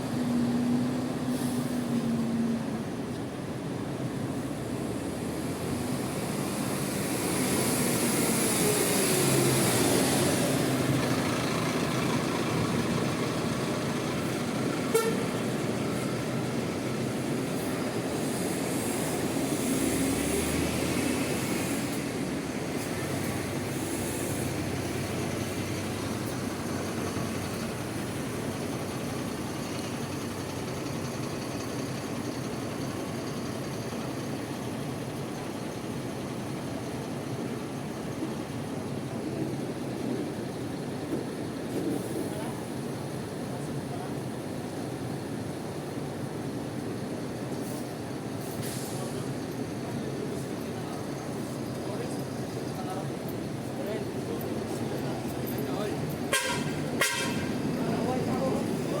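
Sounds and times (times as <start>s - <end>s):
bus engines pulling through: 0.0s - 59.0s
rain and traffic hiss: 0.0s - 59.0s.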